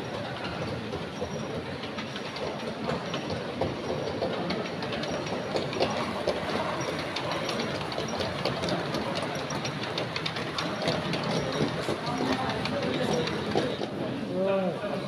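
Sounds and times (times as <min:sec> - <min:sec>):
model trains rumbling: 0:00.0 - 0:15.0
wheels clicking on track: 0:00.0 - 0:15.0.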